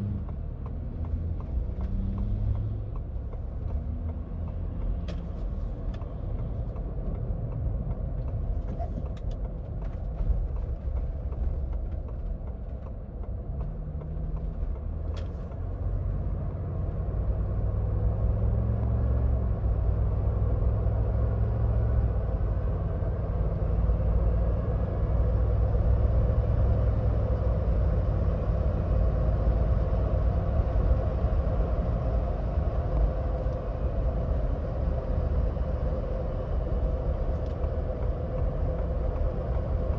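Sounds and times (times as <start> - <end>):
car engine accelerating: 0.0 - 39.9
road rumble: 0.0 - 39.9.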